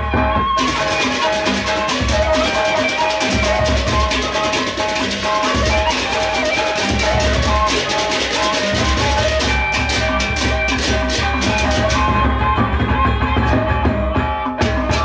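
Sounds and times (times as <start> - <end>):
barrel drums beating: 0.0 - 15.0.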